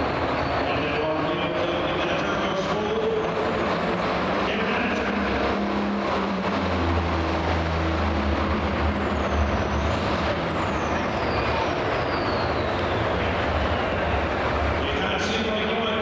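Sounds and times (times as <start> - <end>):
diesel engine rumble: 0.0 - 16.0.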